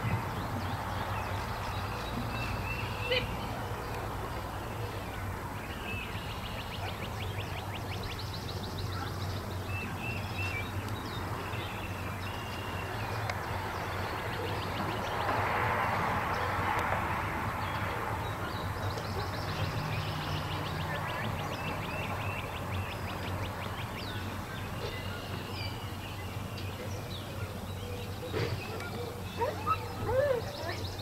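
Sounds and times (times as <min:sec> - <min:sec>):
birds chirping and trilling: 0:00.0 - 0:31.0
broad rush of noise: 0:00.0 - 0:31.0.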